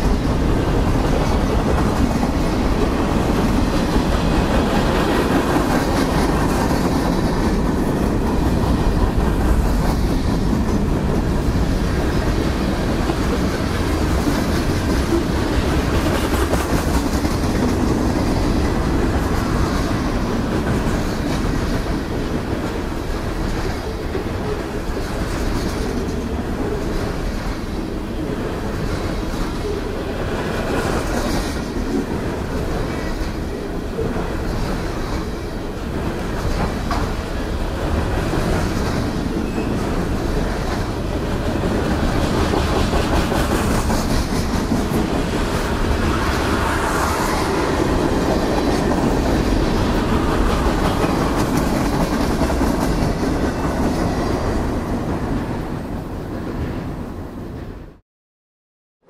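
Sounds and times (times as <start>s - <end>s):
train wheels clacking: 0.0s - 55.4s
freight train rolling past: 0.0s - 58.0s.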